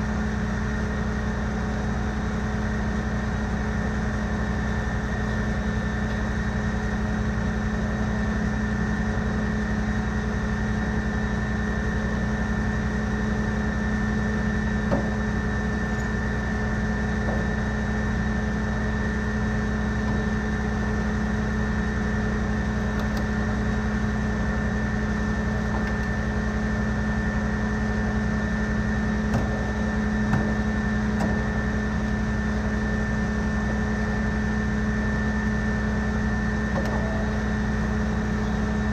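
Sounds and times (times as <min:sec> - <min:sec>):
fire engine pump drone: 0:00.0 - 0:38.9
high whine: 0:00.0 - 0:38.9.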